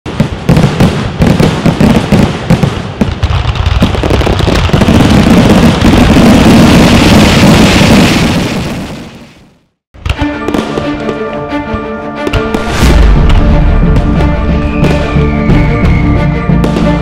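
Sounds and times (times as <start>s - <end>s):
fireworks bangs and crackles: 0.1s - 11.2s, 12.2s - 17.0s.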